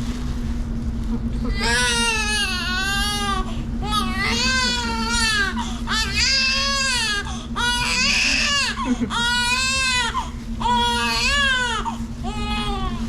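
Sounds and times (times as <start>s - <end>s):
newborn baby crying: 1.5s - 13.0s.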